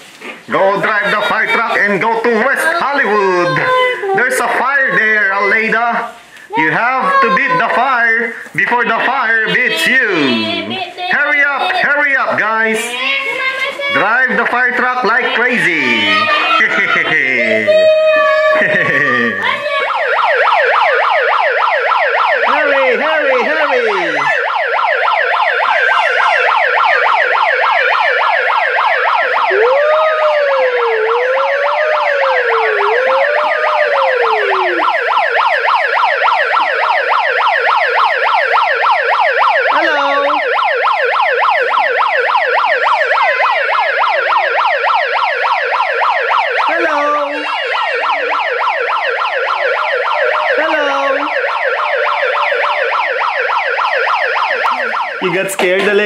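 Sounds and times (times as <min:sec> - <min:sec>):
toy electronic siren wailing: 0:00.6 - 0:05.8, 0:06.6 - 0:10.8, 0:13.9 - 0:55.3.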